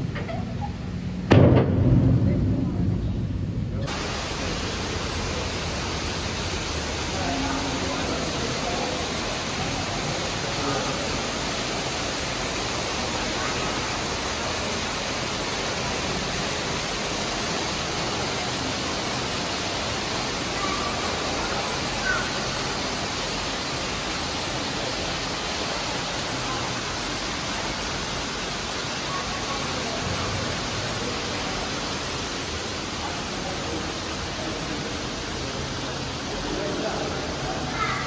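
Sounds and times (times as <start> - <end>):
water pouring underground: 1.3 - 38.0.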